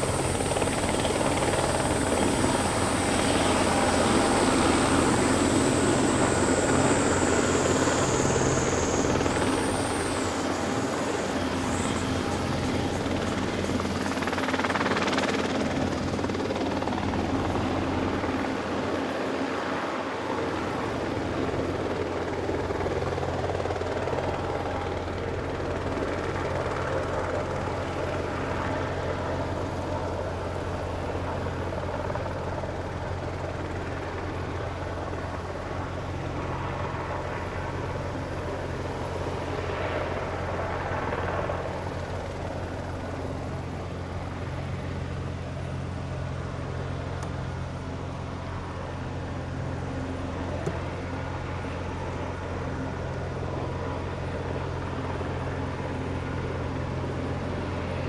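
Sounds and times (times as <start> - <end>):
helicopter rotor thrum: 0.0 - 58.0
high turbine whine: 0.0 - 58.0.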